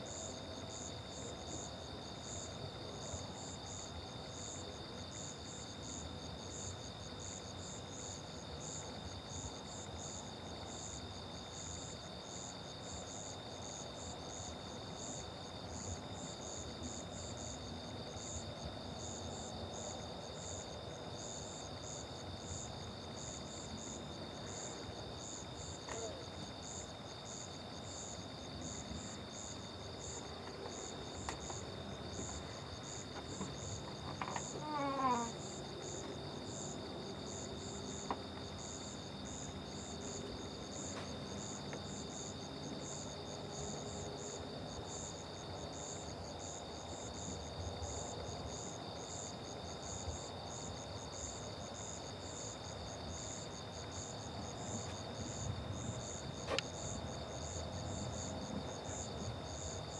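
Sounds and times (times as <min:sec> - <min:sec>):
insects trilling: 0:00.1 - 0:59.9.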